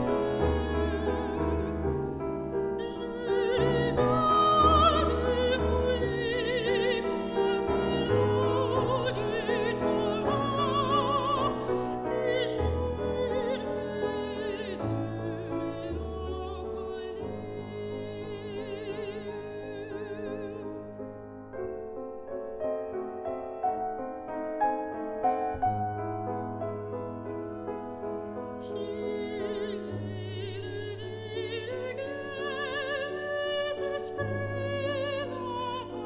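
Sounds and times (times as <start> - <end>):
soprano singing with vibrato: 0.0 - 21.2, 27.5 - 36.0
piano accompaniment: 0.0 - 36.0.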